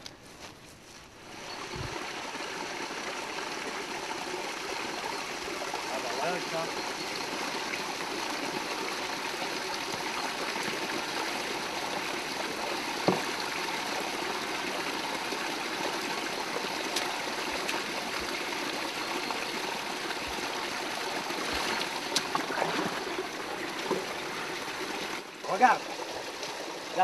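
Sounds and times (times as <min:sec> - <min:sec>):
water trickling over rocks: 0:01.1 - 0:27.0.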